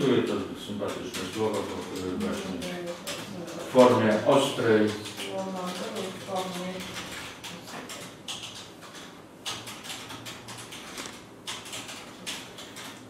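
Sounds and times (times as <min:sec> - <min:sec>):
keyboard typing: 0:00.2 - 0:13.0.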